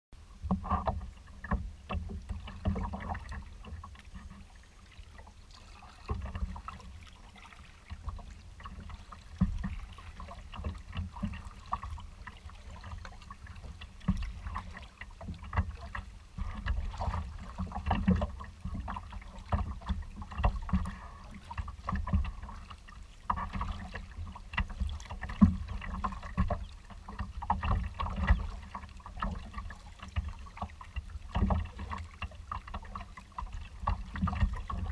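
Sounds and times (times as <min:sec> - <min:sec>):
water slapping kayak hull: 0:00.2 - 0:34.9.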